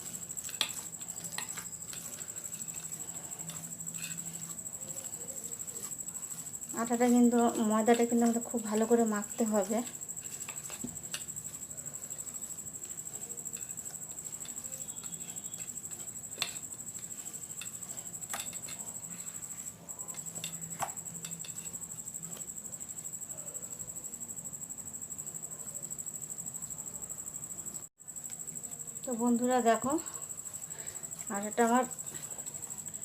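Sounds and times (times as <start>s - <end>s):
dough squishing and patting: 0.0s - 23.2s, 28.2s - 33.0s.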